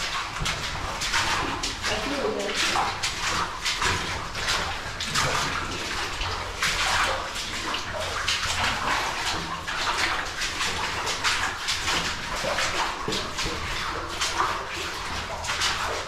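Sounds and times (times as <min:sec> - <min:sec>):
feet wading through muddy water: 0:00.0 - 0:16.0.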